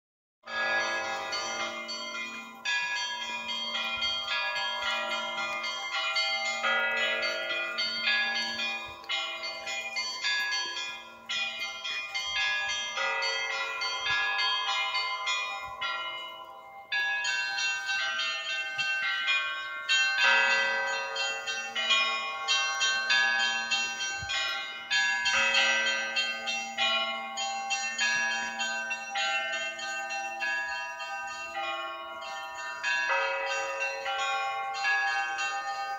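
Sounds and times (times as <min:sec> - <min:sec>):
low church bell: 0:00.4 - 0:35.9
small church bells pealing: 0:00.4 - 0:35.9.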